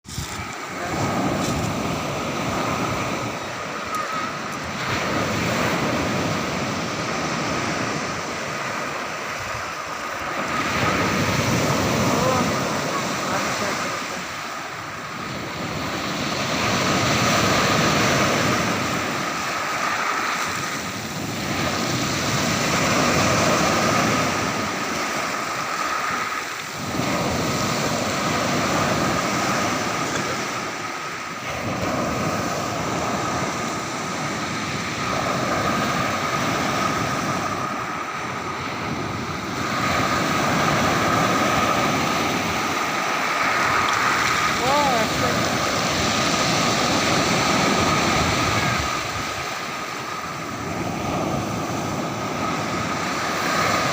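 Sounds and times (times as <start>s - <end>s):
sea waves breaking on shore: 0.0s - 53.9s
wind buffeting microphone: 0.0s - 53.9s.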